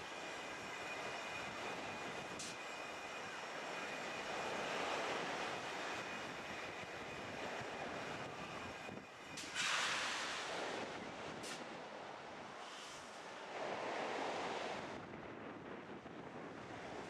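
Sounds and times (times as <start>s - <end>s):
choppy sea: 0.2s - 17.0s.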